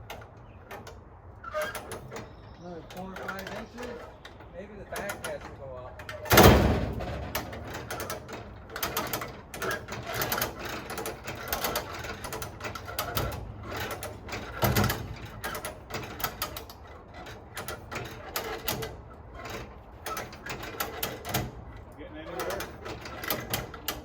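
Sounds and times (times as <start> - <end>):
lifting gear ratcheting: 0.0 - 24.0.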